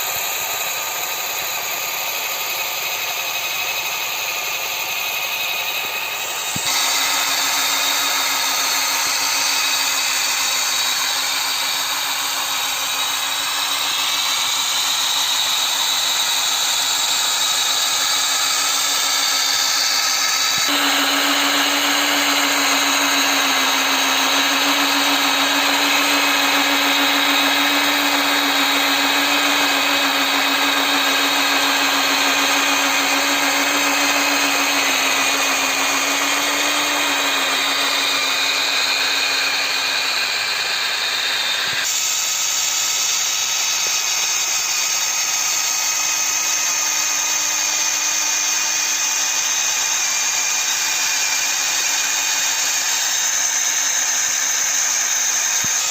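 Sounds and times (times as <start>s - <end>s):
small electric motors whining: 0.0s - 55.9s.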